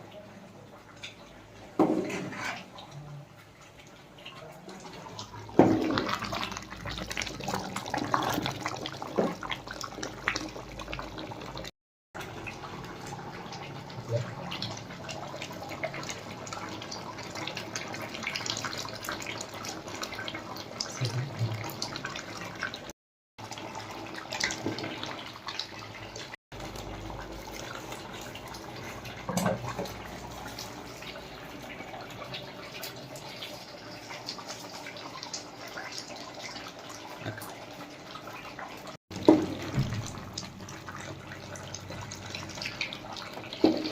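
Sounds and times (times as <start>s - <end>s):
water running from a tap: 0.9s - 43.9s.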